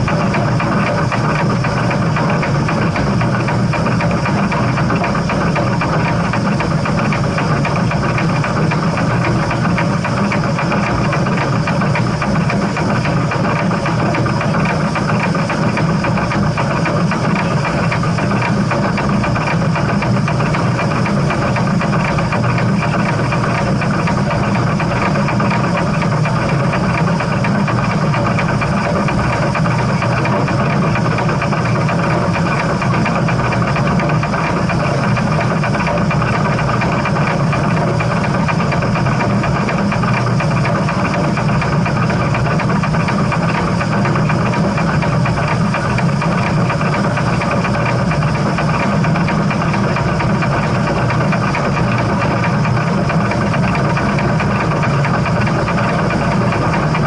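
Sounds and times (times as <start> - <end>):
steam train rumbling and rattling: 0.0 - 57.0.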